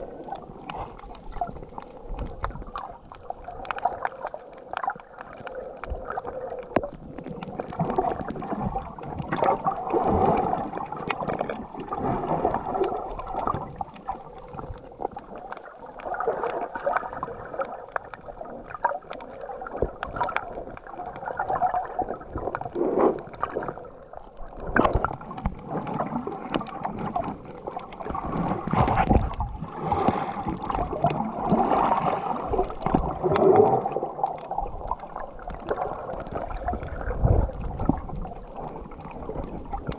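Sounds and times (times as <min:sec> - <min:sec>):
underwater water gurgling: 0:00.0 - 0:39.9.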